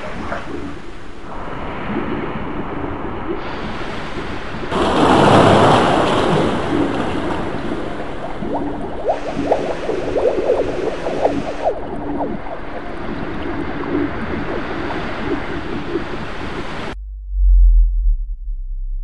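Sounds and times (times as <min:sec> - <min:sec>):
ocean surf washing: 0:00.0 - 0:17.0
wave breaking: 0:00.0 - 0:17.0.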